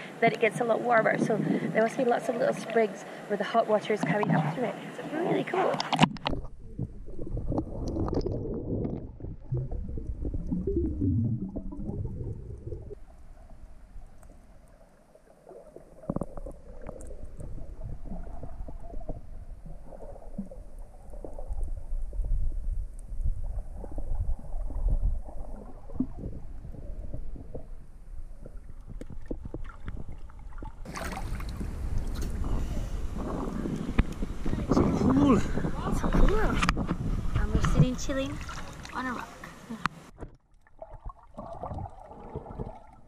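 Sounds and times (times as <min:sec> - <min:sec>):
muffled underwater rumbling and gurgling: 0:03.8 - 0:39.4.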